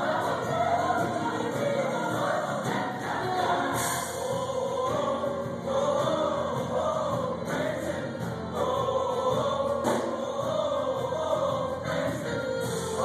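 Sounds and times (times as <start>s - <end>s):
choir singing long notes: 0.0s - 13.0s.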